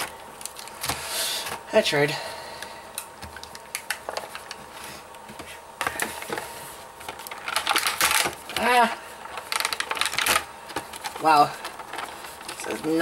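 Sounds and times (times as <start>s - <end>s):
plastic packaging crinkling: 0.0s - 1.8s, 3.0s - 13.0s.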